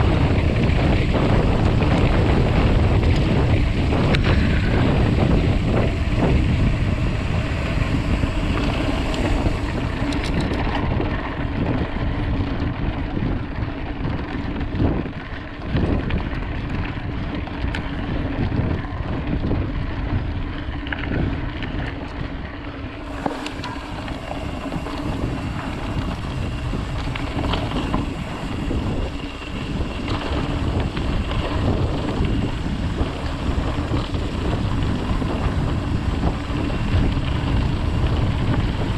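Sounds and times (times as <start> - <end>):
tyres rumbling on dirt: 0.0 - 19.1, 19.8 - 38.9
bike knocking and rattling: 0.0 - 38.9
wind rushing over microphone: 0.0 - 38.9.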